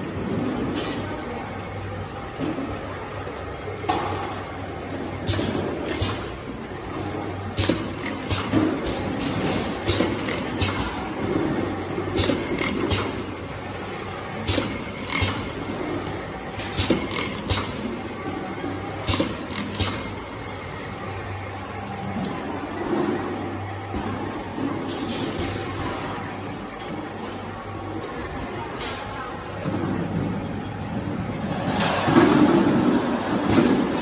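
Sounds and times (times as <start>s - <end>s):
machine hum: 0.0s - 34.0s.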